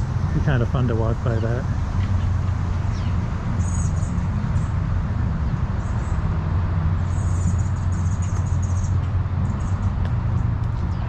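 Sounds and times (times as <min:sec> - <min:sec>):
small birds chirping: 0:00.0 - 0:06.4, 0:07.0 - 0:11.0
low outdoor rumble: 0:00.0 - 0:11.0.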